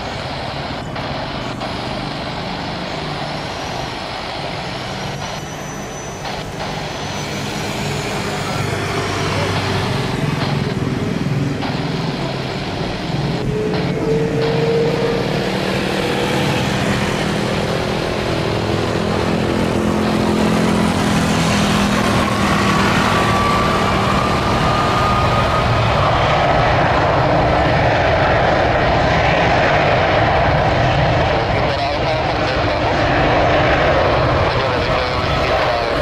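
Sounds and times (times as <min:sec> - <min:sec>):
jet engines at high power: 0:00.0 - 0:36.0.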